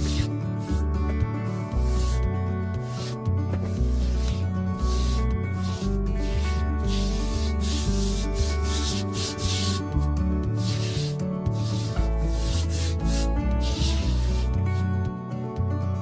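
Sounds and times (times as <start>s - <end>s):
brush scrubbing a surface: 0.0s - 14.8s
background music with bass: 0.0s - 16.0s.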